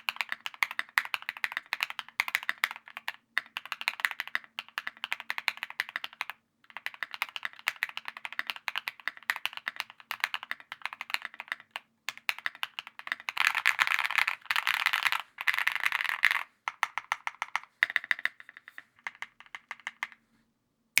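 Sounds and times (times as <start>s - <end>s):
mechanical keyboard typing: 0.0s - 18.4s.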